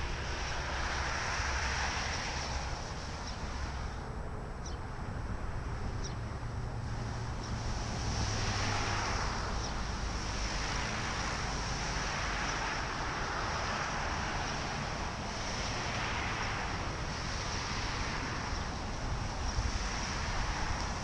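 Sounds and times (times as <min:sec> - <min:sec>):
wind gusting over microphone: 0:00.0 - 0:21.0.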